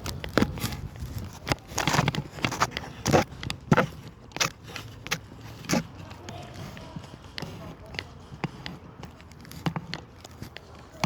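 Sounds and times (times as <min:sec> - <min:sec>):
footsteps: 0:00.0 - 0:11.0
gear rustling: 0:00.0 - 0:11.0.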